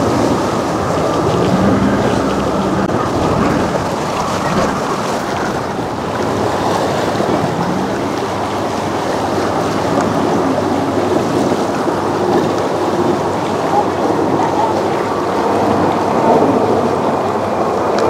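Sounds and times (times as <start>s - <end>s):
water splashing against dock: 0.0s - 18.0s
wind on microphone: 0.0s - 18.0s.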